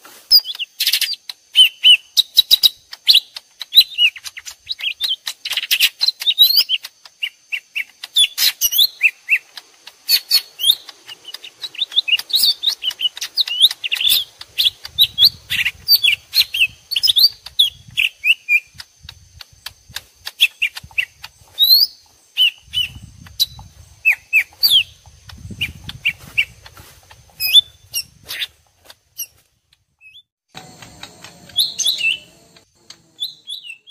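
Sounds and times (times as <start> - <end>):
birds chirping and whistling: 0.3 - 29.4, 30.0 - 33.9.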